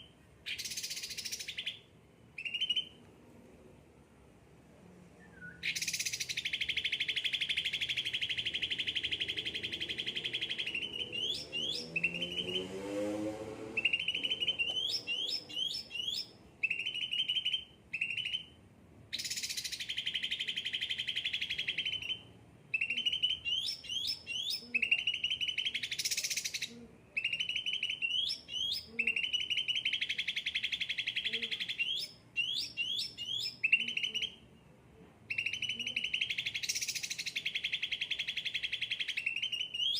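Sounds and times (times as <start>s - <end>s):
bird chirps: 0.0s - 3.0s, 5.2s - 13.1s, 13.8s - 39.9s
pet bird singing buzzy trills: 0.0s - 3.0s, 5.5s - 12.7s, 13.8s - 34.4s, 35.3s - 39.9s.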